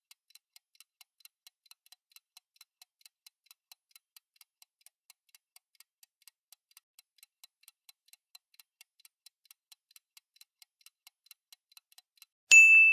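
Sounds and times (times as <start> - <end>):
clock-like ticking: 0.0 - 12.5.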